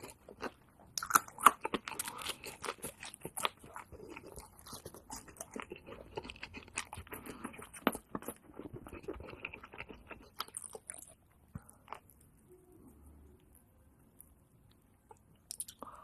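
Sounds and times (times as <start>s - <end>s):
crunchy chewing of fried chicken: 0.0s - 13.5s.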